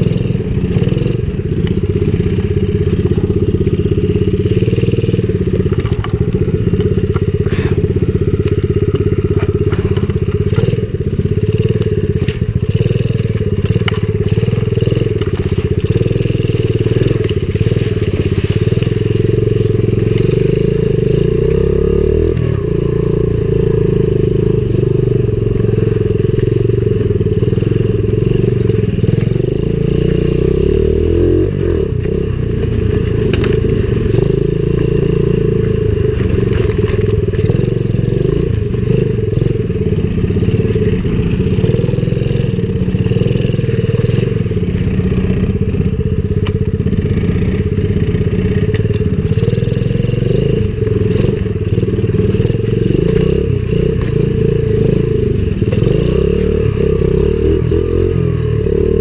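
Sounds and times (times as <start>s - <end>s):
small motorbike engine running: 0.0s - 59.0s.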